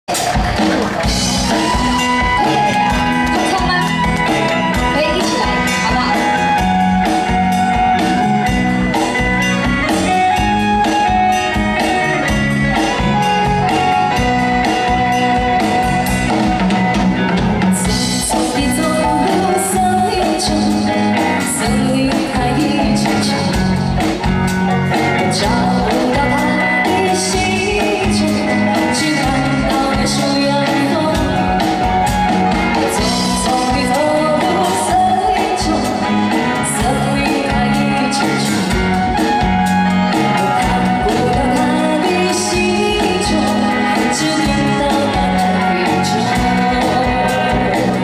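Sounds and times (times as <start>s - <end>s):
guitar: 0.0s - 48.0s
drum kit steady beat: 0.1s - 30.6s, 31.2s - 48.0s
sustained melody lines: 0.1s - 48.0s.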